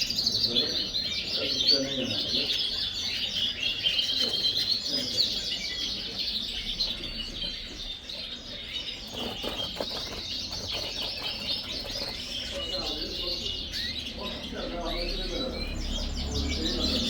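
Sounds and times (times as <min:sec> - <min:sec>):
many canaries chirping: 0:00.0 - 0:17.0.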